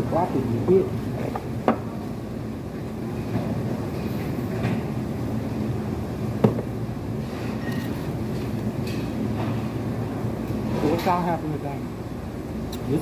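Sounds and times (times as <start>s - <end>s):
restaurant room noise: 0.0s - 13.0s.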